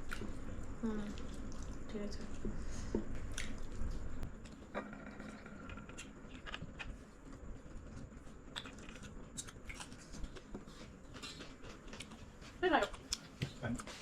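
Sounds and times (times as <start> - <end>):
people eating at a table: 0.0 - 14.0.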